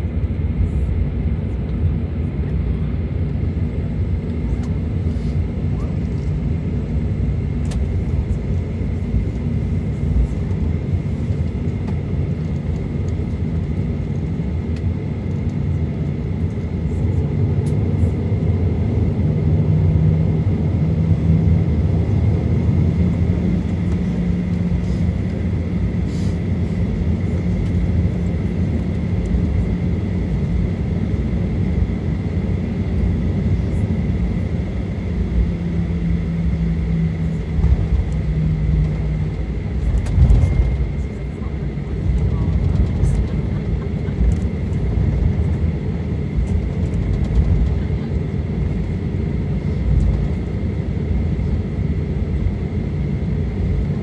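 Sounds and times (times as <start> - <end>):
aircraft cabin rumble: 0.0 - 54.0
jet engine whine: 0.0 - 54.0.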